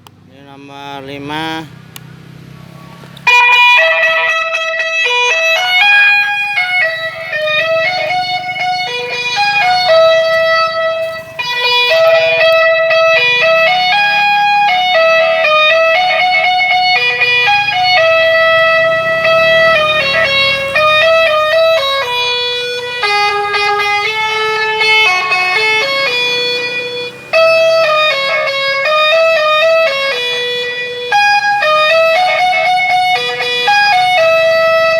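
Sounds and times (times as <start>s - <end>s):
electronic horn melody: 3.2s - 34.9s.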